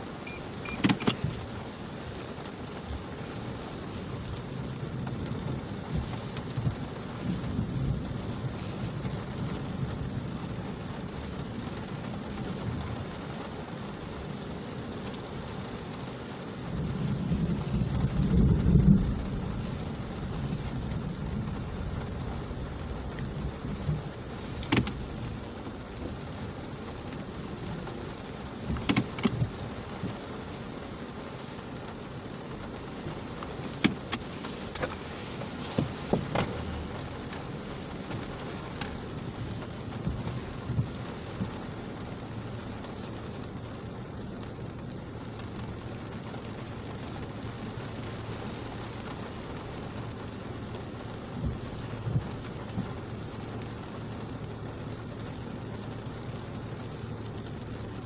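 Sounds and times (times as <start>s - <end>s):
heavy rain on a car roof: 0.0s - 58.0s
raindrop taps and knocks: 0.0s - 58.0s.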